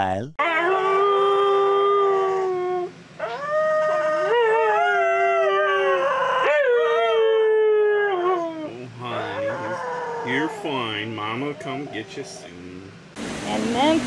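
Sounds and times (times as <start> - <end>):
dog howling: 0.4 - 12.7.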